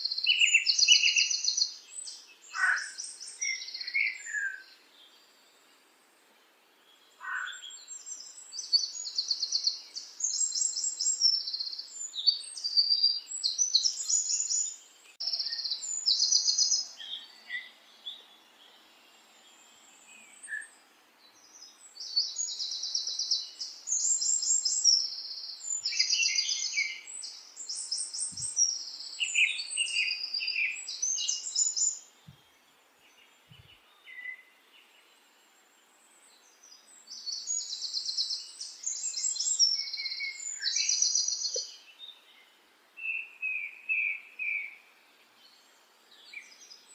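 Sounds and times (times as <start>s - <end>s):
songbird trilling and chirping: 0.0s - 5.4s, 6.8s - 35.2s, 36.2s - 44.8s.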